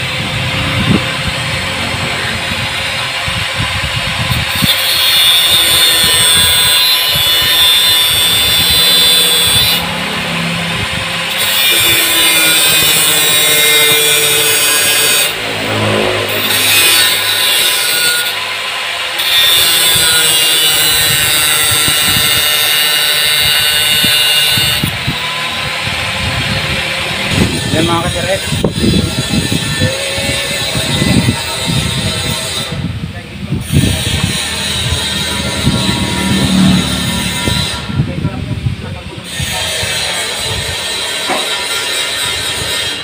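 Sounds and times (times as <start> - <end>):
angle grinder grinding metal: 0.0 - 43.0.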